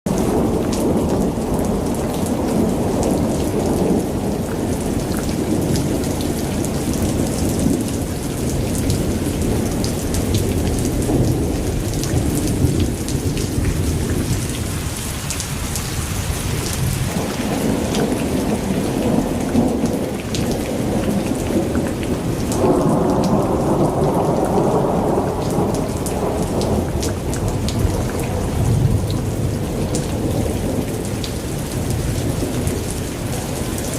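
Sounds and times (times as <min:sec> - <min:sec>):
rain falling: 0:00.1 - 0:33.9
thunder rumbling: 0:00.1 - 0:33.9.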